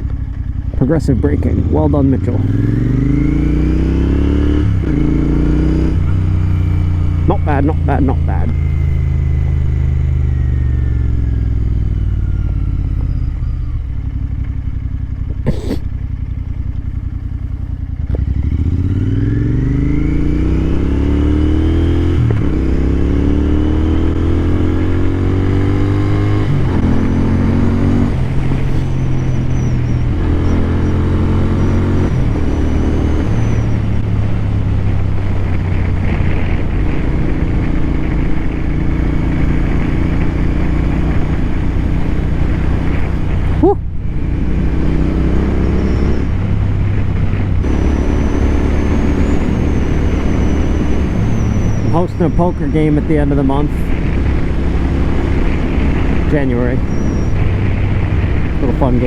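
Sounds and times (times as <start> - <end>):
motorcycle engine revving and shifting: 0.0 - 59.0.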